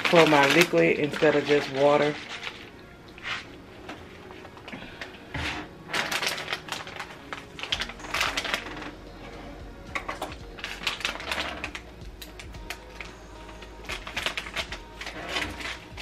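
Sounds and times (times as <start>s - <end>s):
frozen pieces rattling in blender cup: 0.0s - 3.4s, 5.6s - 16.0s.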